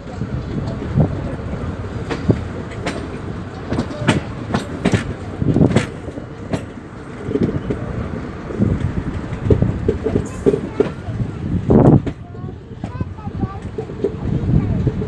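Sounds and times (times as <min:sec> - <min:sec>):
train coaches rumbling: 0:00.0 - 0:15.0
wheels clanking over rail joints: 0:00.0 - 0:15.0.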